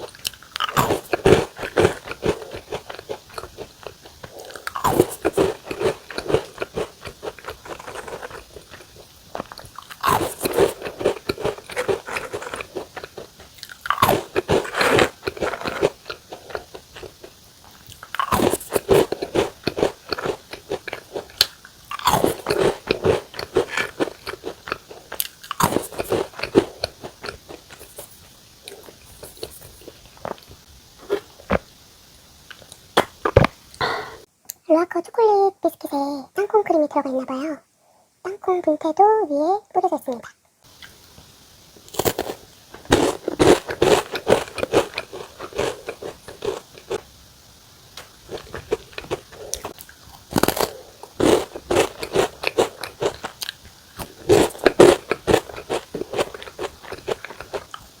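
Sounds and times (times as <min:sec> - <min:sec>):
biscuits being crunched: 0:00.0 - 0:31.6, 0:41.8 - 0:47.0, 0:48.0 - 0:57.9.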